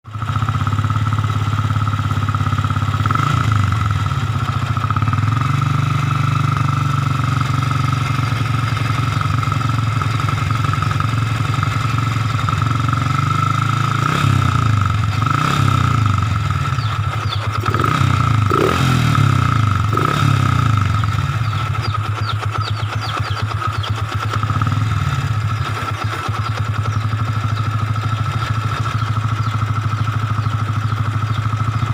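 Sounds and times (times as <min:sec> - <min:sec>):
motorcycle engine idling: 0:00.1 - 0:31.9
motorcycle throttle blips: 0:00.2 - 0:31.9.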